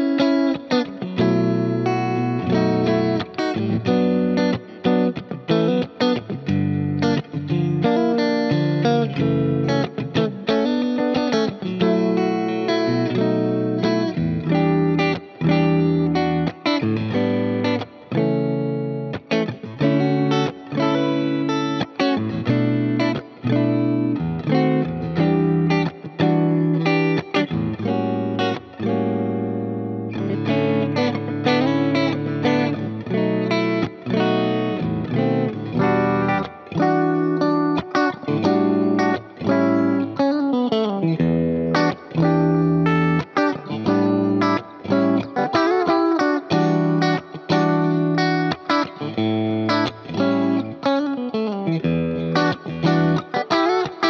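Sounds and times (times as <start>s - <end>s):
electric guitar with delay: 0.0s - 54.0s.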